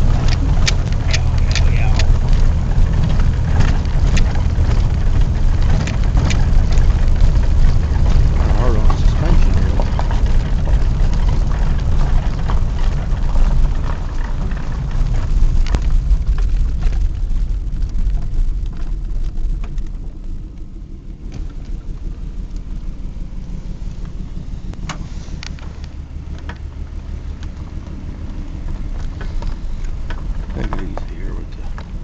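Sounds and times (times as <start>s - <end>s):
car engine and road rumble: 0.0s - 32.0s
suspension knocks and rattles: 0.0s - 32.0s.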